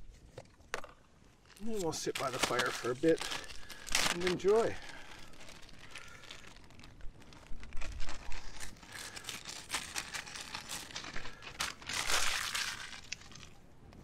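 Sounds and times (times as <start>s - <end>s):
plastic bags crinkling: 1.4s - 13.7s.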